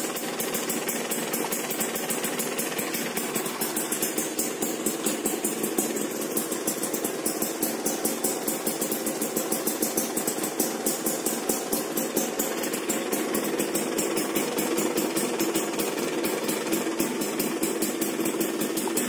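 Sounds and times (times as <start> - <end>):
two-stroke engine idling: 0.0 - 19.0.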